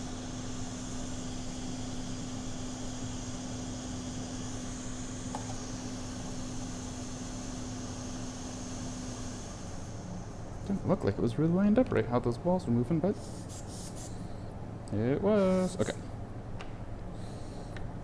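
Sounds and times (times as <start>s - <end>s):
electric fan whirring: 0.0s - 18.0s.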